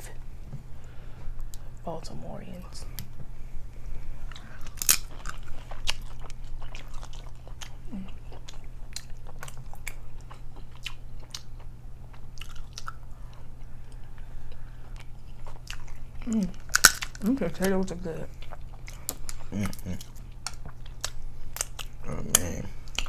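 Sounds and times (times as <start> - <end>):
chewing with sharp crunches: 3.8 - 23.0.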